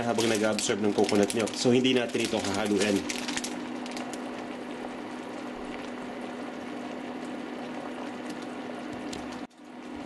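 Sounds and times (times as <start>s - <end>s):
pot simmering and bubbling: 0.0s - 10.0s.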